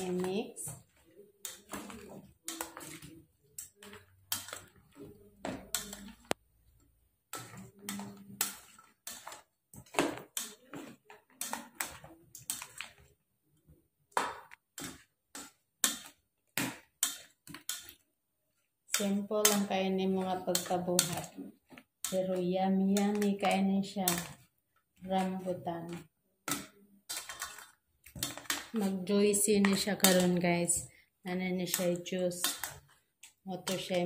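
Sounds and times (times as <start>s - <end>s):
plastic spoon knocking in steel bowl: 0.0s - 13.1s, 14.1s - 18.0s, 18.9s - 34.0s.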